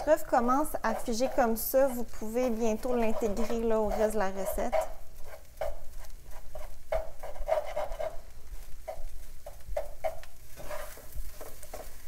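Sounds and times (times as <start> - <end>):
utensil scraping frying pan: 0.0 - 12.0
vegetables frying: 0.0 - 12.0.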